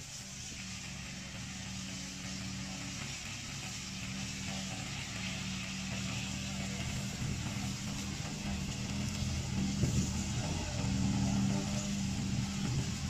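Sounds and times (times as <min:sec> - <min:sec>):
mower engine running: 0:00.0 - 0:13.0
steady hiss: 0:00.0 - 0:13.0.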